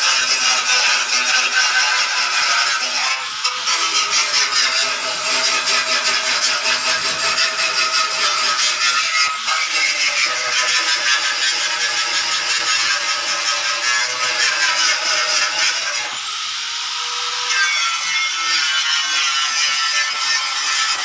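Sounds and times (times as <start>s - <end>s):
angle grinder grinding metal: 0.0s - 21.0s.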